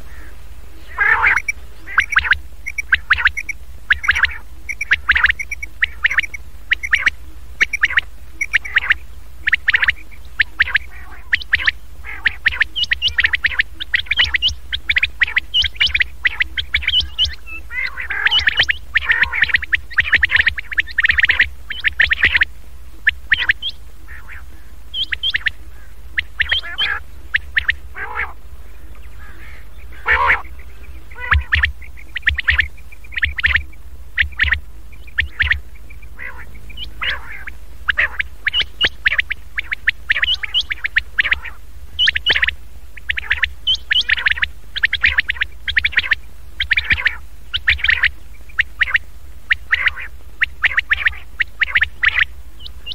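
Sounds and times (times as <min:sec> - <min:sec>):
recorded quail calls: 0:00.0 - 0:52.9
steady low hum: 0:00.0 - 0:52.9.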